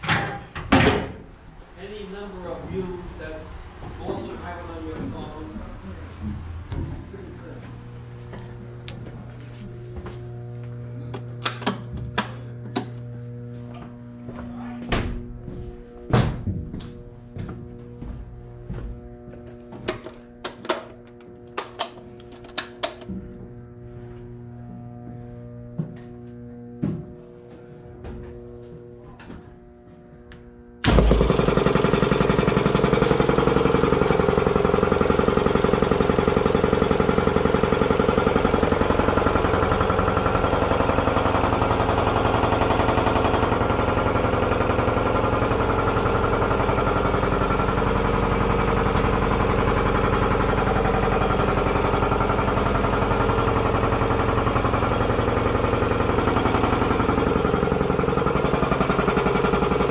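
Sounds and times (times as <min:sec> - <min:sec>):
air compressor pulsing: 0:00.0 - 0:59.9.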